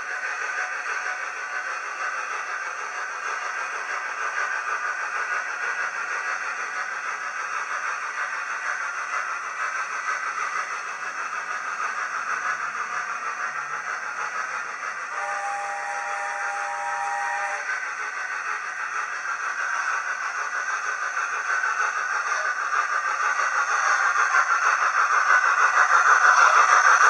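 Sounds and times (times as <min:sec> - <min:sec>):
model train whirring on rails: 0:00.0 - 0:27.0.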